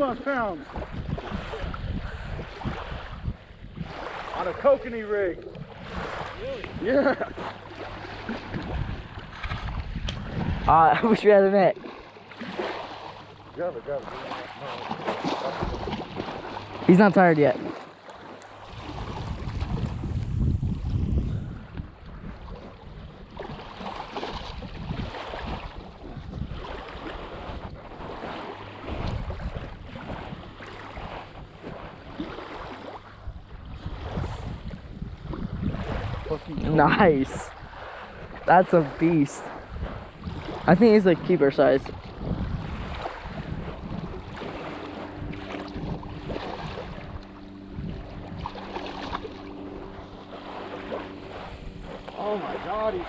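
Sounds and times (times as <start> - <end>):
wind buffeting microphone: 0.0 - 11.9, 18.6 - 53.0
lake water washing: 0.0 - 53.0
low motor hum: 0.0 - 53.0.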